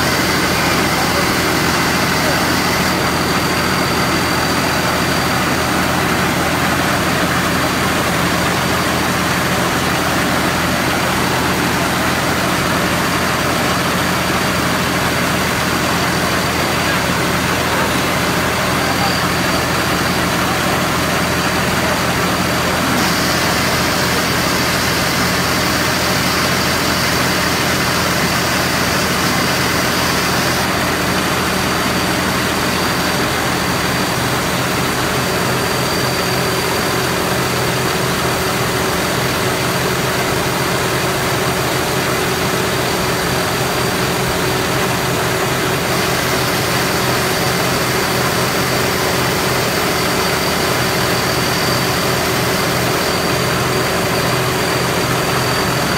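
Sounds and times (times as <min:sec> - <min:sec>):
combine harvester droning: 0:00.0 - 0:55.9.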